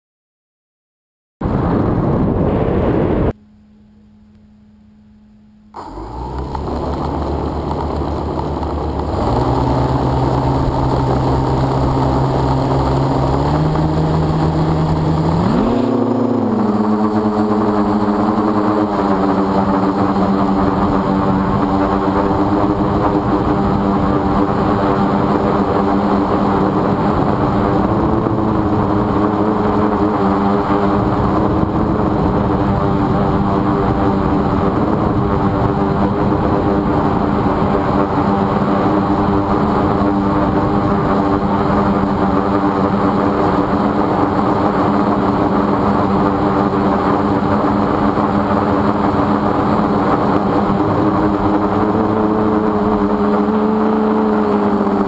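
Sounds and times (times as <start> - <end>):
quadcopter motors whirring: 5.8 - 55.0.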